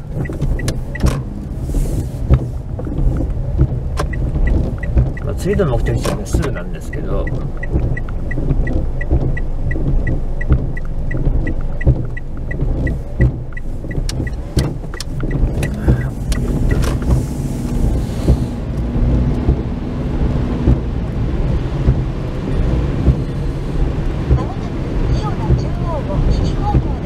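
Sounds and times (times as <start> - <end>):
car engine and road rumble: 0.0 - 27.0
turn signal ticking: 0.0 - 27.0
tyres on wet road: 0.0 - 27.0.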